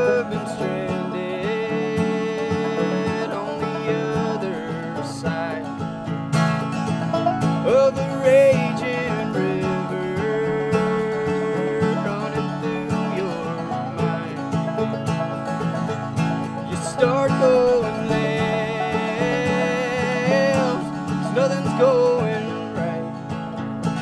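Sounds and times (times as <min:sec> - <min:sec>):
acoustic guitar: 0:00.0 - 0:24.0
banjo: 0:00.0 - 0:24.0
mandolin: 0:00.0 - 0:24.0.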